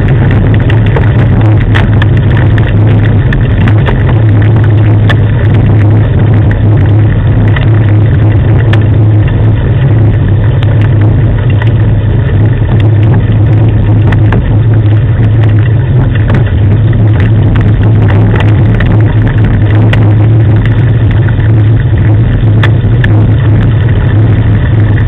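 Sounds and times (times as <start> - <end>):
small clicks and rattles: 0.0 - 25.0
training rig rolling on paved road: 0.0 - 25.0.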